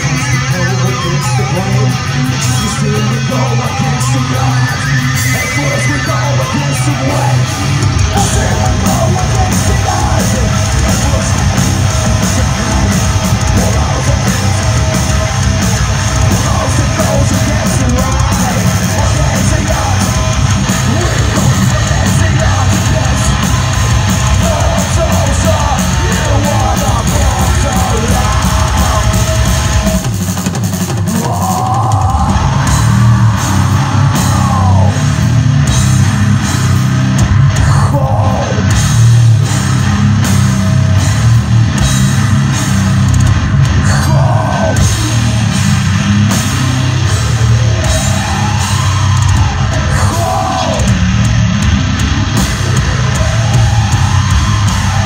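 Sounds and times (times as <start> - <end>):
fast kick-drum strokes: 0.0 - 55.0
heavy metal band playing live: 0.0 - 55.0
shouted vocals: 2.5 - 30.0, 31.0 - 35.4, 37.5 - 38.9, 43.7 - 55.0.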